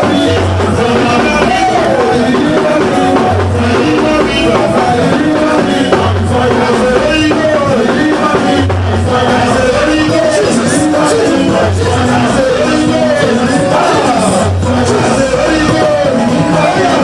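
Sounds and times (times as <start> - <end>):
drums and instruments: 0.0 - 17.0
people singing: 0.0 - 17.0.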